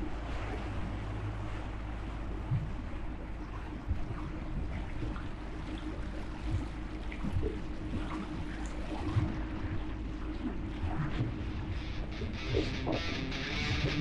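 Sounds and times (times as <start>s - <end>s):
boat motor hum: 0.0s - 14.0s
water splashing against hull: 0.0s - 14.0s.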